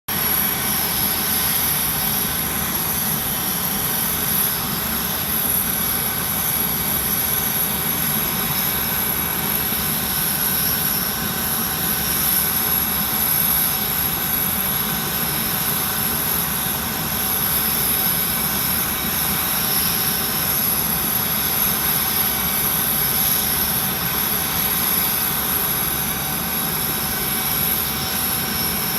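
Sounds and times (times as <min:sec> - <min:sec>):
aircraft engines running: 0:00.1 - 0:28.9
high-pitched whine: 0:00.1 - 0:28.9.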